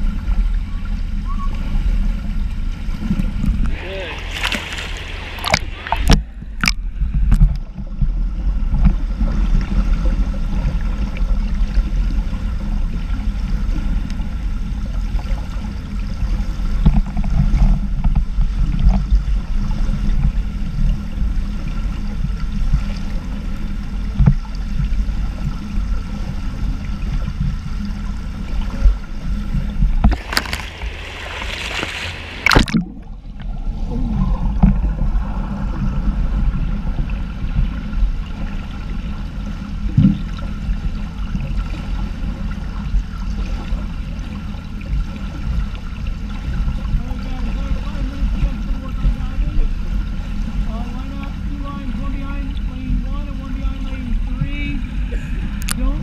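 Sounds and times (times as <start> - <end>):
muffled underwater rumble: 0.0 - 56.0
swimmer splashing and bubbles: 0.0 - 56.0
water splashes: 0.0 - 56.0.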